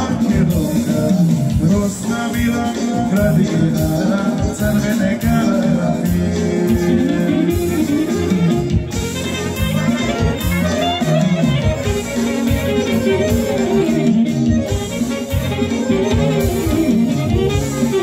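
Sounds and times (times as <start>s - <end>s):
folk dance band playing: 0.0s - 18.0s.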